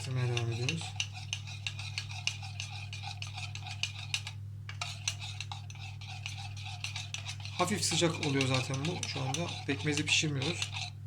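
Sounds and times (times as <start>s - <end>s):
spoon stirring thick paste in pot: 0.0s - 11.0s.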